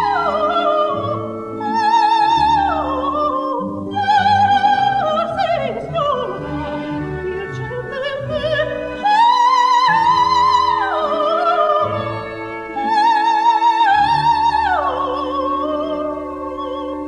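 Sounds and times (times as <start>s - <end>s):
orchestra playing: 0.0s - 17.0s
soprano singing opera: 0.0s - 17.0s.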